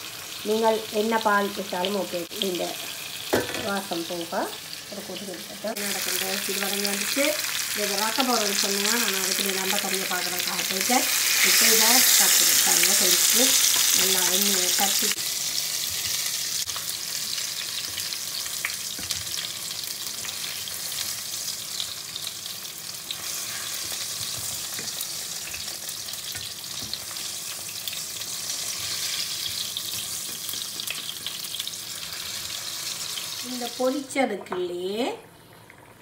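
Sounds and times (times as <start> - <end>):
oil sizzling in frying pan: 0.0 - 34.5.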